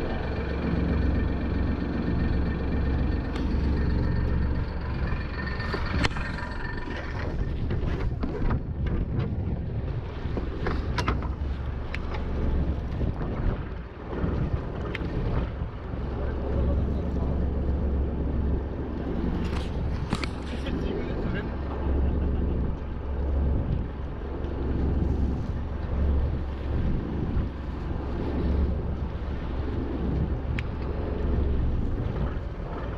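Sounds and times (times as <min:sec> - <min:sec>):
boat engine running: 0:00.0 - 0:32.9
wind on microphone: 0:00.0 - 0:32.9.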